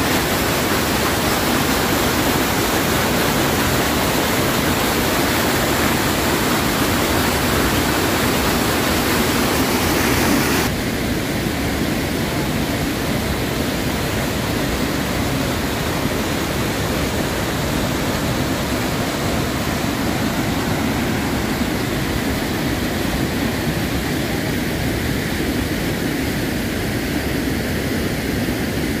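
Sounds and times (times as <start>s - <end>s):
water rushing over spillway: 0.0s - 29.0s.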